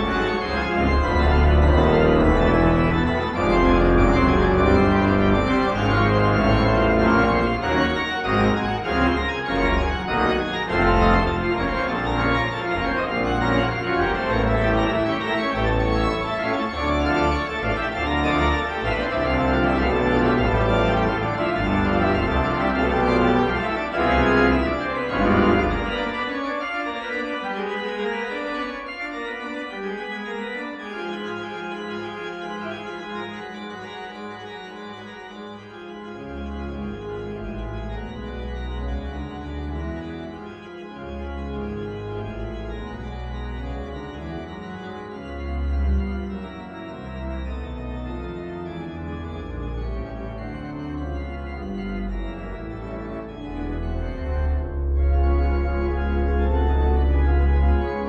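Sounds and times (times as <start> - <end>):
organ playing a toccata: 0.0 - 58.0.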